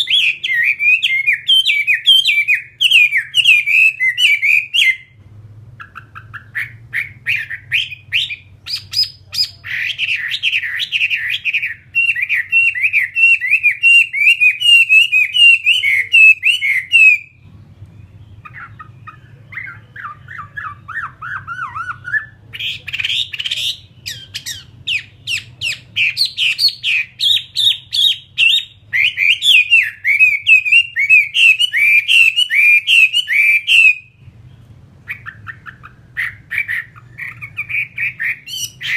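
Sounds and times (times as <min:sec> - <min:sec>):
songbird whistling rapid notes: 0:00.0 - 0:05.2, 0:05.8 - 0:17.4, 0:18.0 - 0:34.2.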